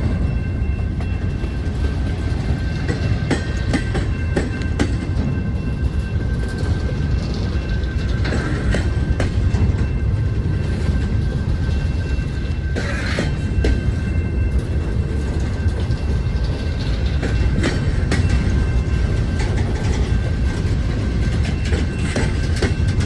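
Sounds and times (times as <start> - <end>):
freight train rumbling past: 0.0 - 23.0
train wheels clicking on rails: 0.0 - 23.0.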